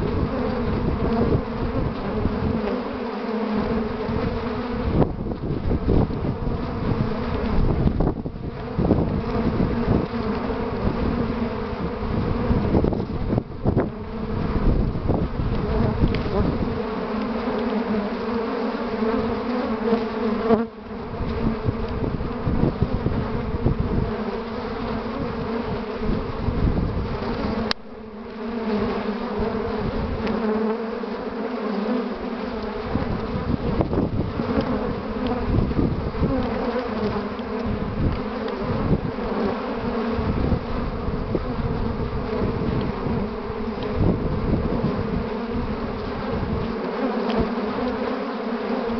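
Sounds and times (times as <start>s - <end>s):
honeybees buzzing: 0.0s - 48.9s.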